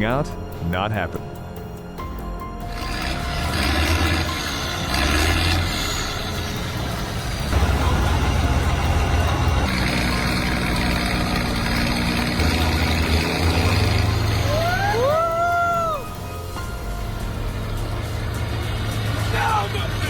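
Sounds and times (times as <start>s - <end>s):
tractor engine revving: 2.2s - 20.0s.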